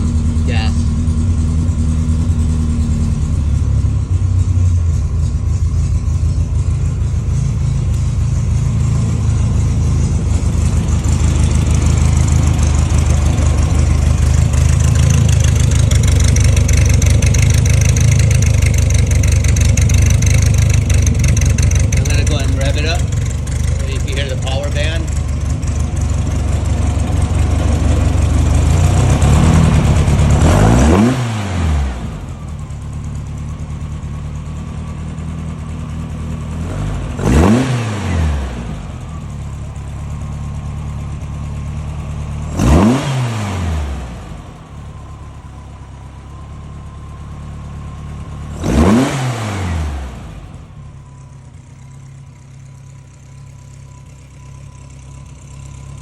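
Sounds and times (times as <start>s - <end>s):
car engine revving and idling: 0.0s - 56.0s.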